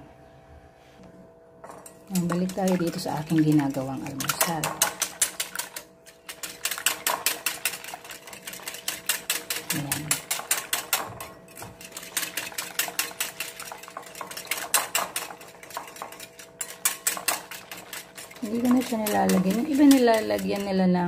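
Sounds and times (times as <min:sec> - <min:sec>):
whisk clicking against glass bowl: 0:01.7 - 0:21.0.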